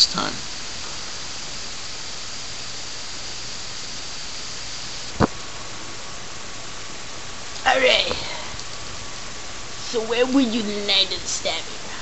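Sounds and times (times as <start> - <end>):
camera recording hiss: 0.0 - 12.0.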